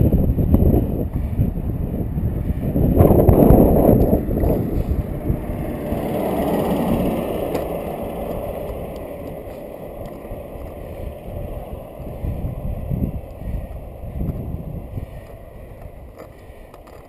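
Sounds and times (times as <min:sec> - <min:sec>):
road noise: 0:00.0 - 0:17.0
wind on microphone: 0:00.0 - 0:17.0.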